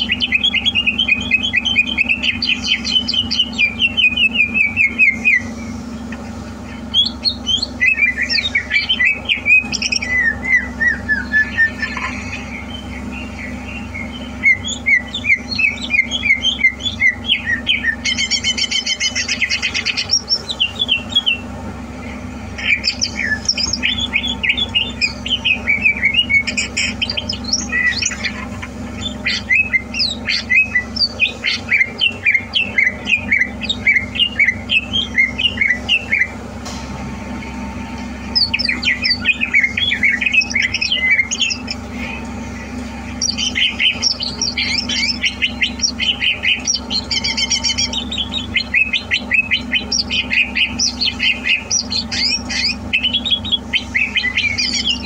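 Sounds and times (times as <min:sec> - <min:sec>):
bird chirps and whistles: 0:00.0 - 0:06.1, 0:06.8 - 0:21.5, 0:22.6 - 0:36.4, 0:38.2 - 0:42.2, 0:43.1 - 0:55.0
harsh buzzy bird trill: 0:00.0 - 0:55.0
steady low hum: 0:00.0 - 0:55.0.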